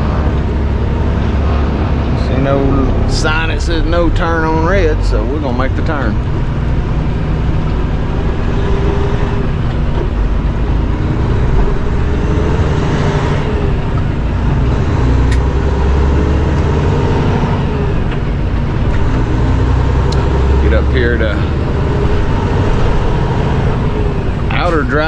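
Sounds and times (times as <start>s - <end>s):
road and tyre noise: 0.0s - 25.0s
truck diesel engine running: 0.0s - 25.0s.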